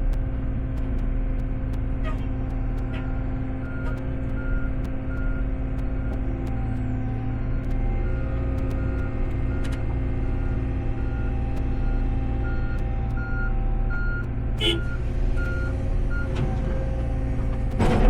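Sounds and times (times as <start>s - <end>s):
diesel heavy equipment running: 0.0s - 18.0s.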